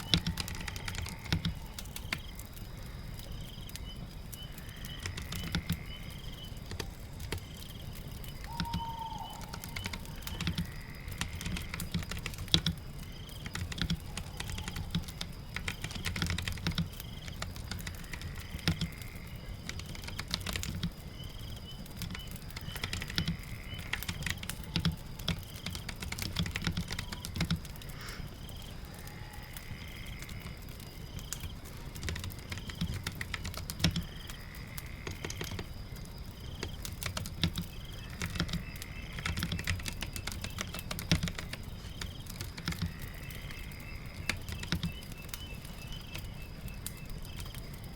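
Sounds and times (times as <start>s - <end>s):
rain patter: 0.0s - 47.9s.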